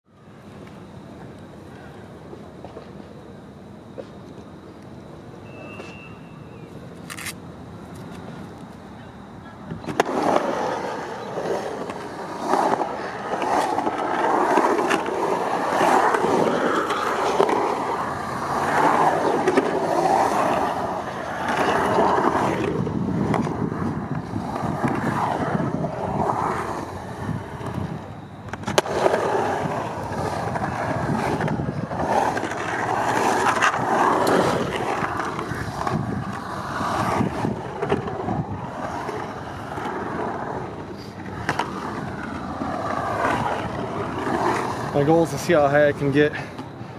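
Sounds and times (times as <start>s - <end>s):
skateboard wheels rolling on concrete: 0.0s - 46.9s.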